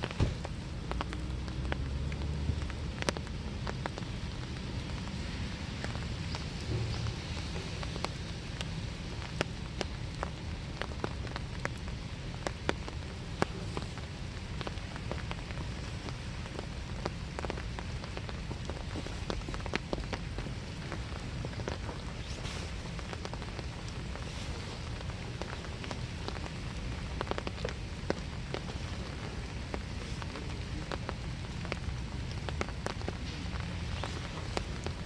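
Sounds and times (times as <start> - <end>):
rain hissing: 0.0 - 35.0
raindrops clicking nearby: 0.0 - 35.0.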